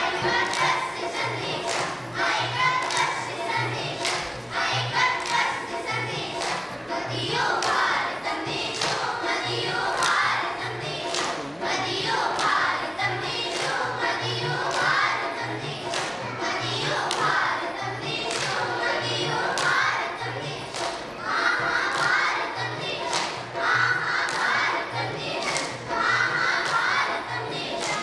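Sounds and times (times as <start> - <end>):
children singing together: 0.0 - 28.0
sharp claps: 0.2 - 4.4, 5.0 - 6.8, 7.4 - 12.7, 13.3 - 21.2, 21.8 - 28.0.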